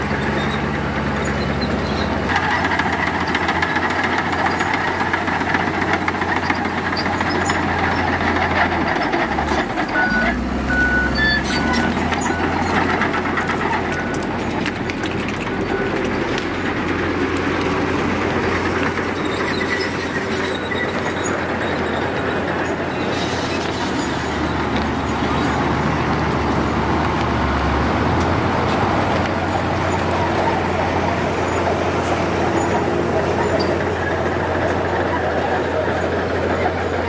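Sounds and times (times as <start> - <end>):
diesel engine rumble: 0.0 - 37.0.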